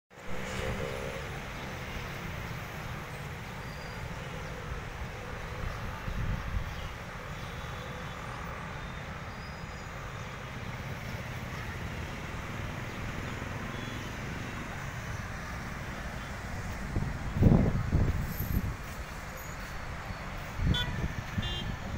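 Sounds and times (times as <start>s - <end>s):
road traffic noise: 0.1s - 21.9s.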